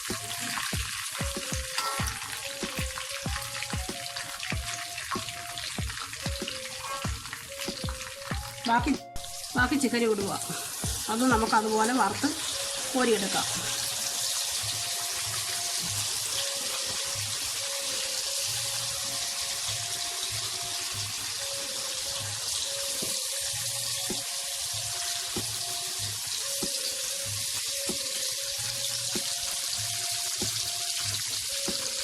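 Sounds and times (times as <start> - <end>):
chicken frying in hot oil: 0.0 - 32.0.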